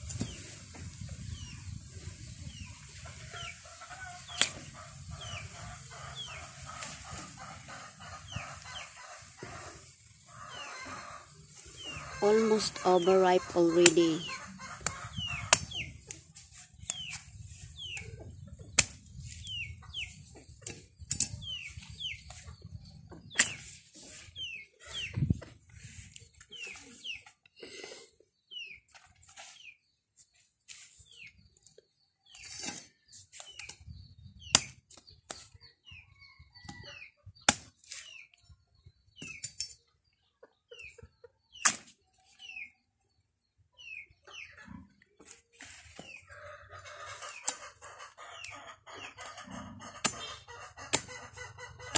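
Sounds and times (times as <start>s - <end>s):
chickens peeping: 0.1s - 30.0s, 31.0s - 51.9s.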